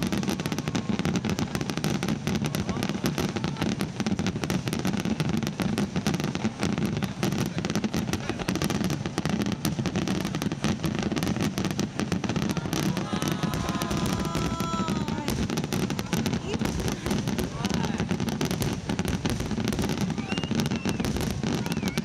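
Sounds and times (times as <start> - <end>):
fireworks cracks and bangs: 0.0 - 22.0.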